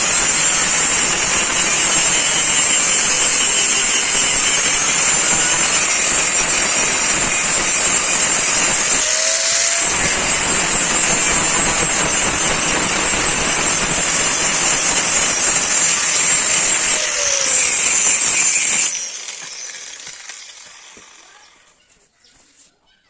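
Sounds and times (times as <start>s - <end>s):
grinder grinding steel: 0.0s - 21.8s.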